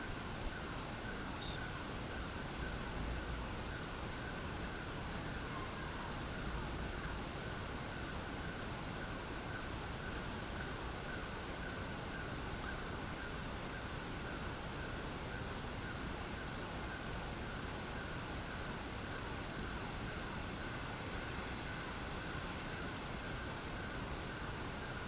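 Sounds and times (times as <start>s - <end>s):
high-pitched insect trill: 0.0s - 25.0s
light rain hissing: 0.0s - 25.0s.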